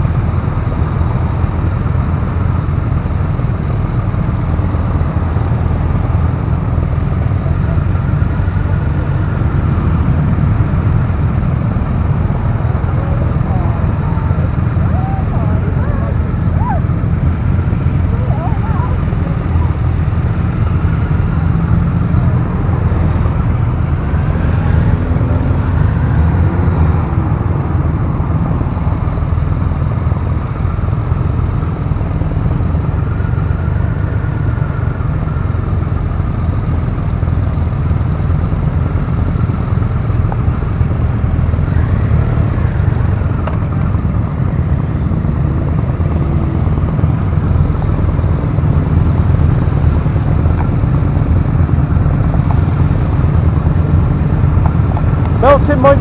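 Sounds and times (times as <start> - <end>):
motorcycle engine rumbling: 0.0 - 56.0
other motorcycle engines: 0.0 - 56.0.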